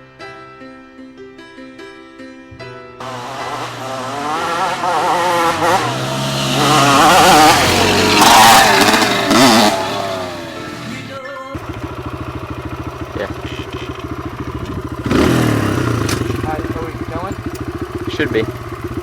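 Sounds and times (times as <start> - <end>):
dirt bike engine idling: 3.0 - 19.0
dirt bike revving by: 3.0 - 19.0.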